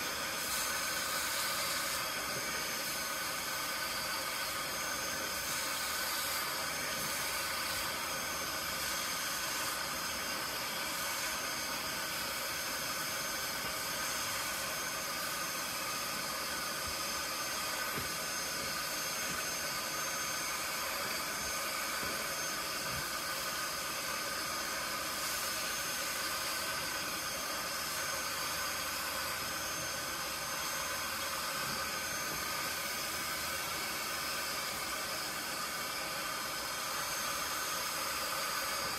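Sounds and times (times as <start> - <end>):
carpet cleaner motor whirring: 0.0 - 38.9.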